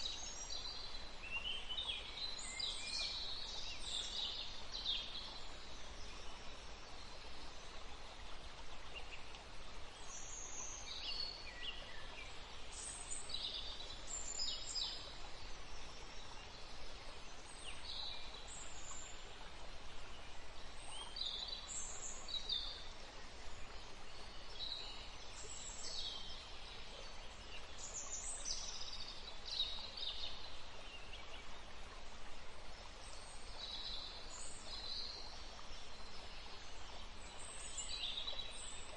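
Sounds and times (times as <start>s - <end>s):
songbirds singing and chirping: 0.0s - 19.4s, 20.0s - 38.9s
steady background hiss: 0.0s - 38.9s.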